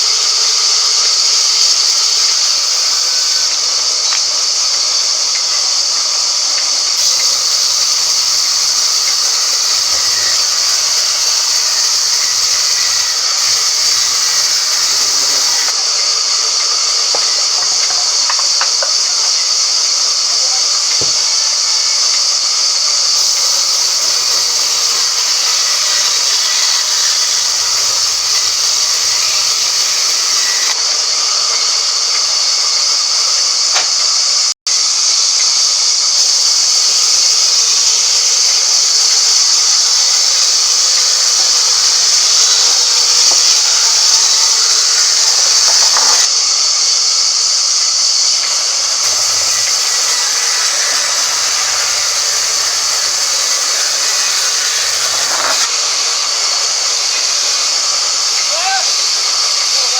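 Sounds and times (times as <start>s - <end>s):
band saw hissing: 0.0s - 35.2s, 35.9s - 59.9s.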